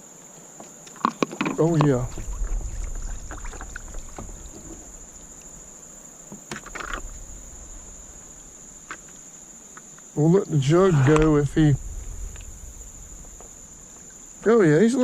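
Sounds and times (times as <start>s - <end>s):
high-pitched insect drone: 1.4s - 15.0s
wind rumble on microphone: 1.5s - 9.7s, 10.3s - 15.0s.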